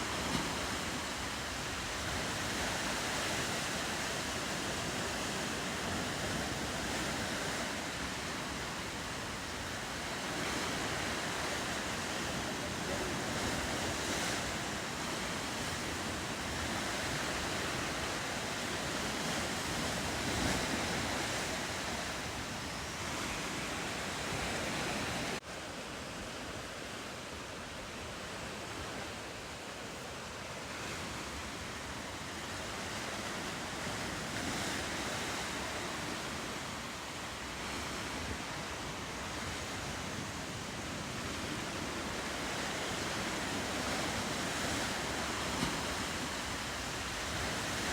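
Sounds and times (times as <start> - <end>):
ocean surf and waves: 0.0 - 47.9.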